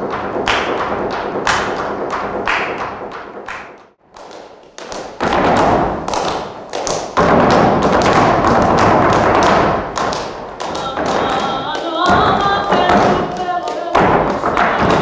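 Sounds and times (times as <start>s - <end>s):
shoes stamping on stage floor: 0.0s - 15.0s
hand-clapping: 0.5s - 15.0s.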